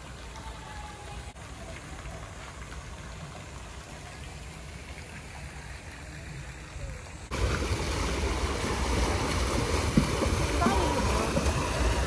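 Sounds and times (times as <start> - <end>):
fountains splashing: 0.0 - 12.0.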